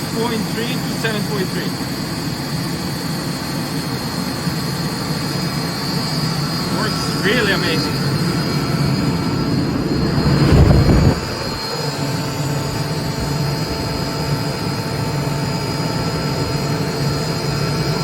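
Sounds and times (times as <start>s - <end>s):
air compressor humming: 0.0s - 18.0s
compressor rushing surge: 0.0s - 18.0s.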